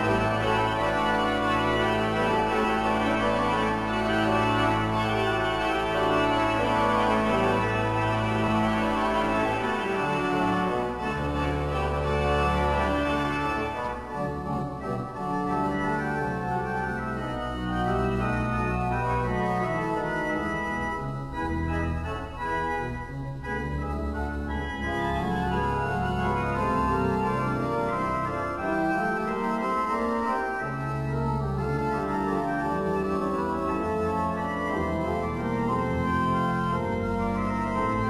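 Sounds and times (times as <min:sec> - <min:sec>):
pipe organ playing chords: 0:00.0 - 0:38.0.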